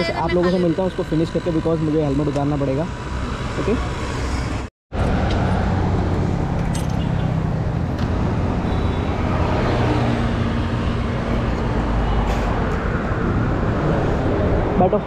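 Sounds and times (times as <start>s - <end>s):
engine running evenly: 0.0s - 13.5s.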